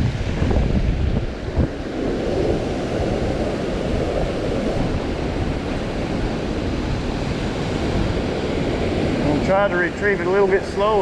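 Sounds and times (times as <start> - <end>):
ocean surf rushing: 0.0 - 11.0
wind buffeting microphone: 0.0 - 11.0.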